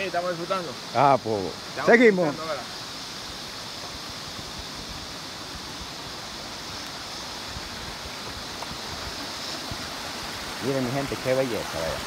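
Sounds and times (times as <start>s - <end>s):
stream water flowing over rocks: 0.0s - 12.0s.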